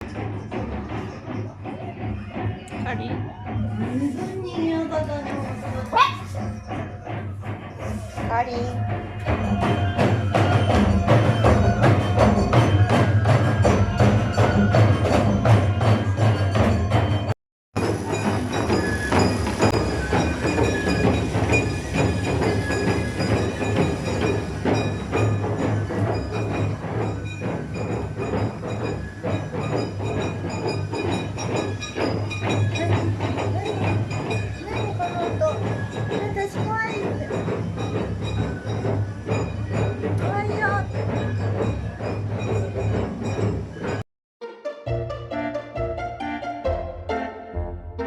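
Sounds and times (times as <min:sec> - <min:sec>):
festival drums and percussion: 0:00.0 - 0:44.0.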